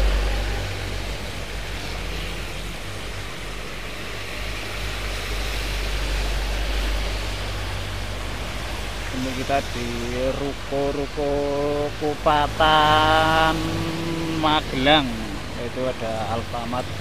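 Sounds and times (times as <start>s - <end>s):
truck engine rumble: 0.0s - 17.0s
tyres hissing on wet road: 0.0s - 17.0s.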